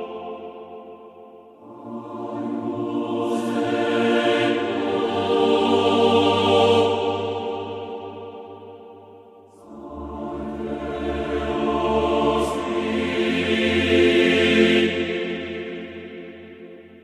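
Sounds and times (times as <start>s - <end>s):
choir holding sustained chords: 0.0s - 17.0s.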